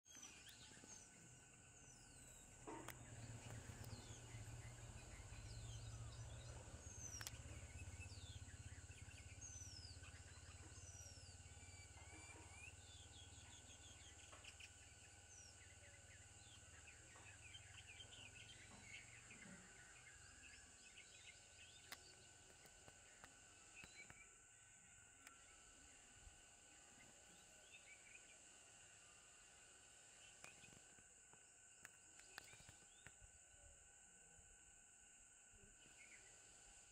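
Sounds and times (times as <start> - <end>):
steady high hiss: 0.1 - 36.9.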